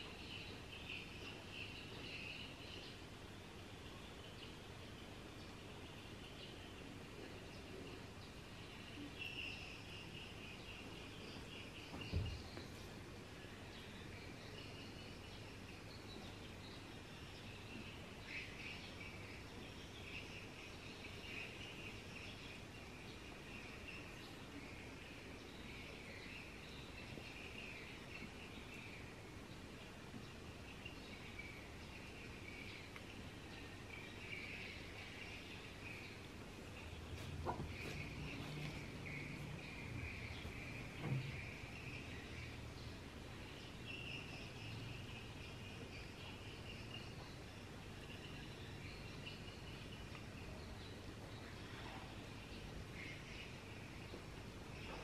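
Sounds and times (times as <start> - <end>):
steady low background noise: 0.0 - 55.0.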